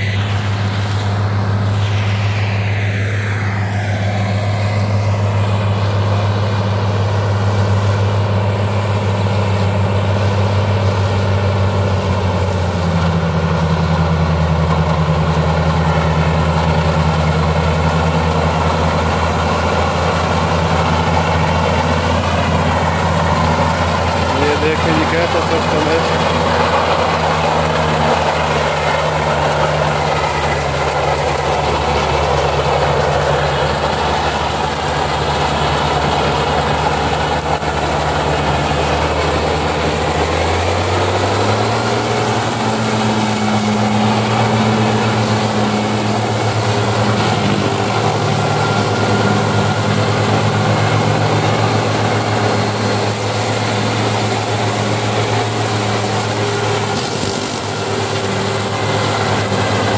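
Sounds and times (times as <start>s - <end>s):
rotary mower cutting grass: 0.0s - 59.9s
tractor diesel engine under load: 0.0s - 59.9s.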